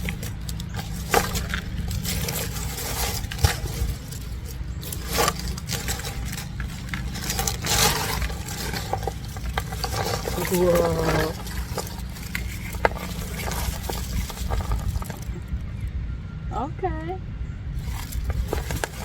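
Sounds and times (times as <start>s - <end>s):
soil scraping and sliding: 0.0s - 15.7s, 17.8s - 19.0s
steady low rumble: 0.0s - 19.0s.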